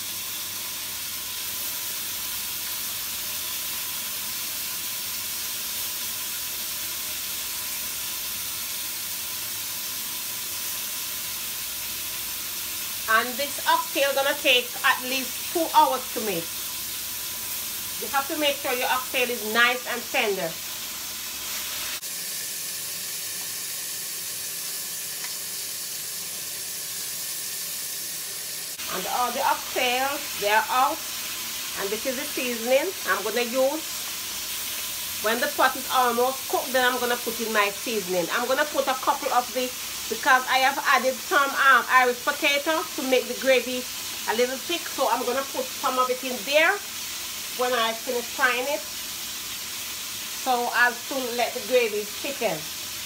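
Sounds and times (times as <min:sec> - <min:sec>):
meat sizzling in oil: 0:00.0 - 0:53.0.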